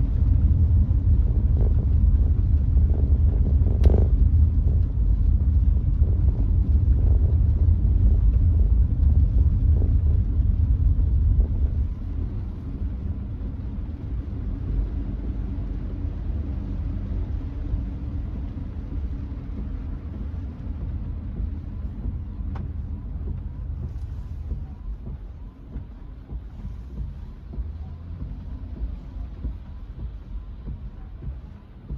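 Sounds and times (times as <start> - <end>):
car cabin road noise: 0.0 - 31.9.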